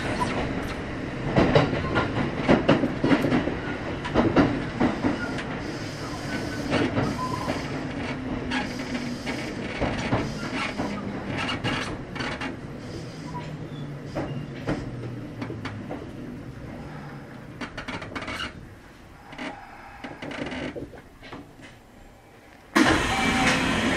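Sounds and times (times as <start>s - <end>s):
train low hum: 0.0s - 23.9s.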